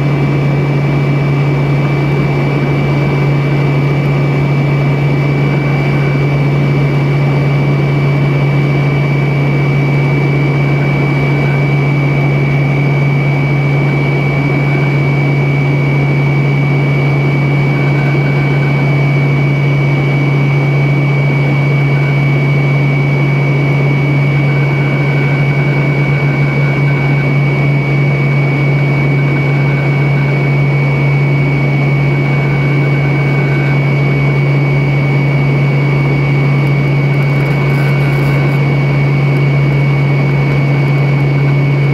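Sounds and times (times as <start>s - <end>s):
airliner cabin engine hum: 0.0s - 41.9s
high jet whine: 0.0s - 41.9s.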